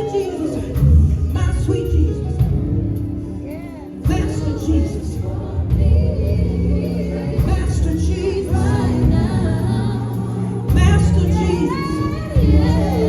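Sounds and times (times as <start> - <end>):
women singing gospel: 0.0 - 2.2, 3.4 - 13.0
band playing: 0.0 - 13.0
low bass notes: 0.8 - 13.0.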